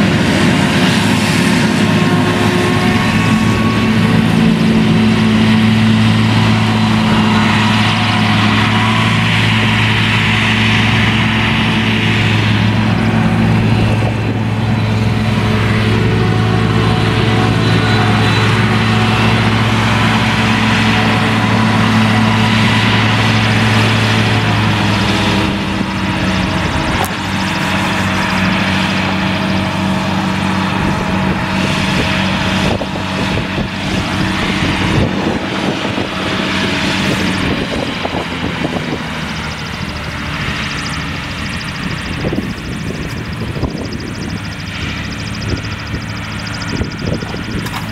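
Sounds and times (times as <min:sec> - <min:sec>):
harvester engine drone: 0:00.0 - 0:47.9.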